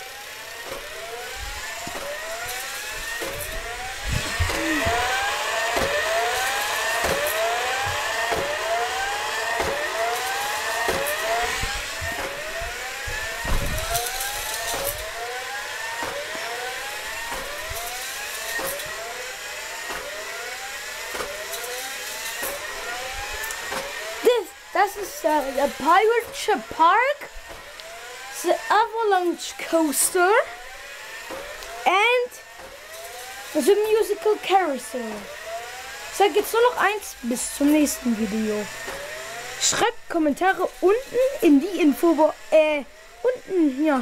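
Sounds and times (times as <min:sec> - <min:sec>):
small motor whining: 0:00.0 - 0:44.0.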